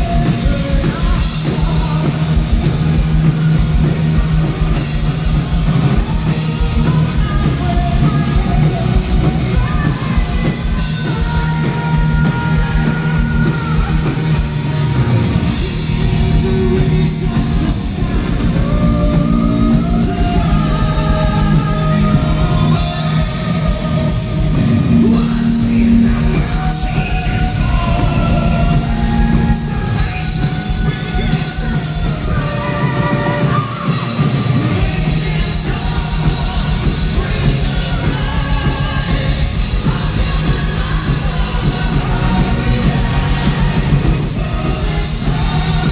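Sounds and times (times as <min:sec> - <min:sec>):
symphonic metal band playing: 0:00.0 - 0:45.9
person singing: 0:05.7 - 0:45.9.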